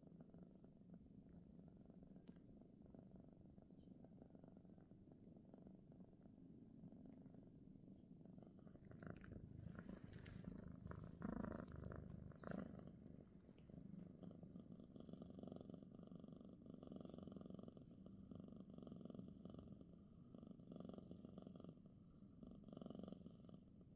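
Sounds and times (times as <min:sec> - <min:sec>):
cat purring: 0:00.0 - 0:23.9.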